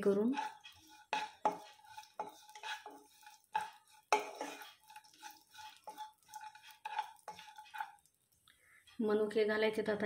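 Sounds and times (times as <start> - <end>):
spatula scraping and knocking pan: 0.0 - 8.1.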